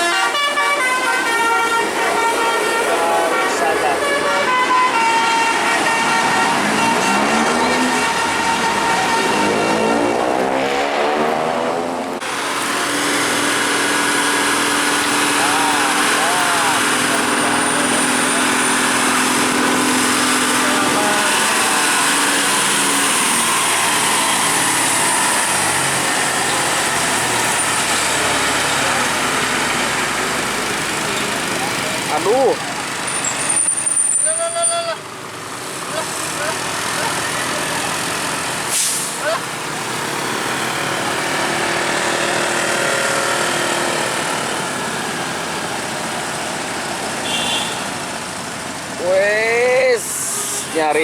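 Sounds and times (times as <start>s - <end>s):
road traffic noise: 0.0s - 51.0s
vehicle engine droning: 1.3s - 51.0s.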